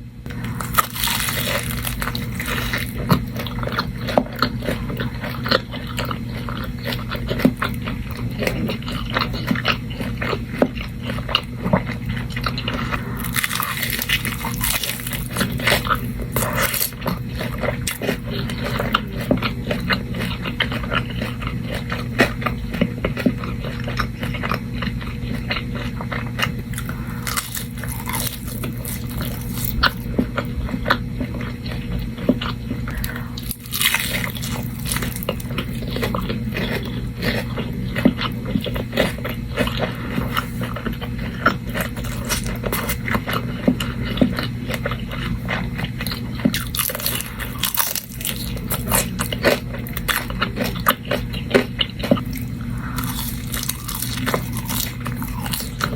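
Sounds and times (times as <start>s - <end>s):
steady low hum: 0.0s - 55.9s
crunching fried chicken: 0.2s - 55.9s.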